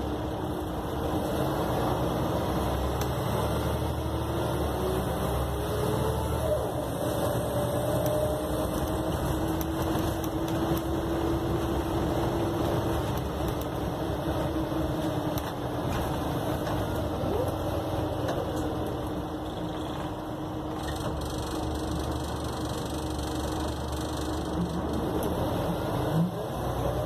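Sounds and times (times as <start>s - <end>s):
bus engine drone: 0.0s - 27.0s
road noise: 0.0s - 27.0s.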